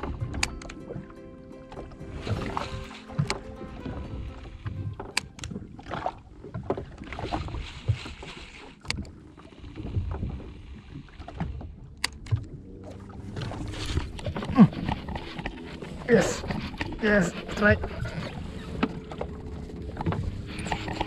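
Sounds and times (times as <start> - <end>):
water splashing and lapping: 0.0 - 21.0.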